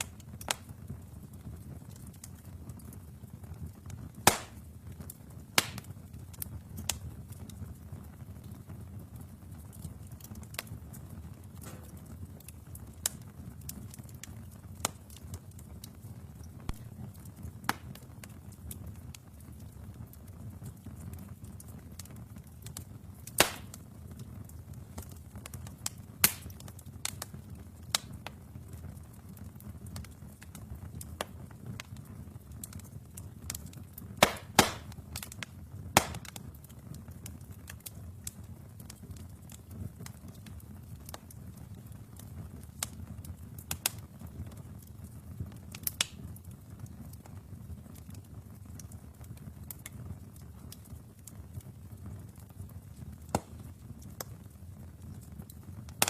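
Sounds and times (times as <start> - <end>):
fire flames rumbling: 0.0 - 56.0
logs crackling and popping: 0.0 - 56.0.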